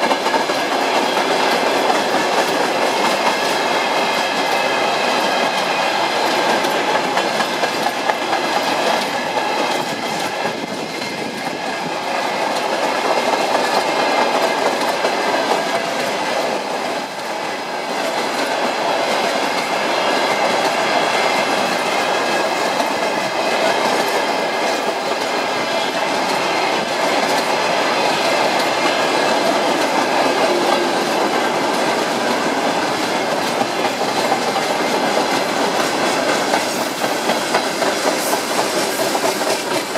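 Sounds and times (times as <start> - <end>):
freight train wagons rolling: 0.0 - 39.9.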